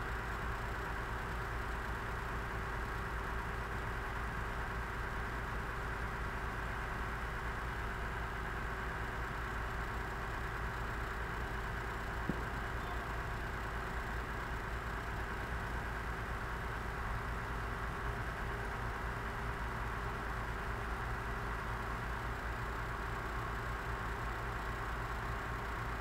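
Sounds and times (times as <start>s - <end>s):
diesel engine rumbling: 0.0s - 26.0s.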